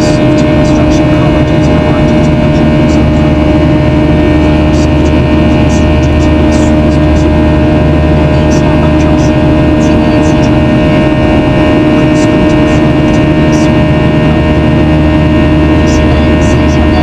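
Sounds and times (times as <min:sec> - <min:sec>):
jet cabin engine rush and whine: 0:00.0 - 0:17.0.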